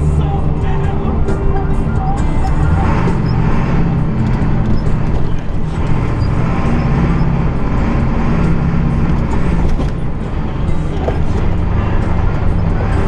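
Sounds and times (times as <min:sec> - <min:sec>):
diesel truck engine drone: 0:00.0 - 0:13.0
road noise: 0:00.0 - 0:13.0.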